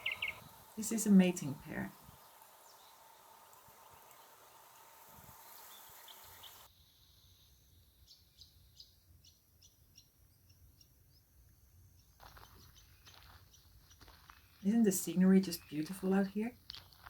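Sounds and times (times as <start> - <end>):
faint wetland ambience: 0.0 - 17.0
small bird chirping: 0.0 - 17.0.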